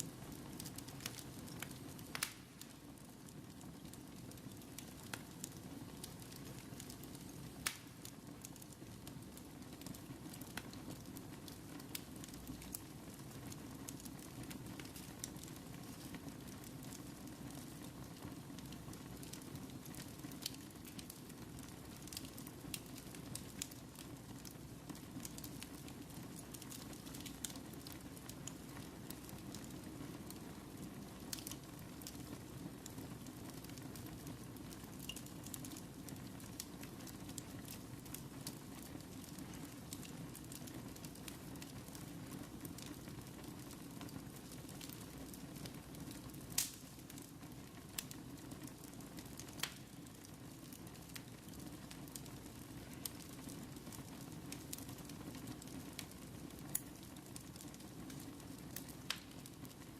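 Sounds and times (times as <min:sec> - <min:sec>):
fire crackling and popping: 0:00.0 - 0:59.9
wood fire burning: 0:00.0 - 0:59.9.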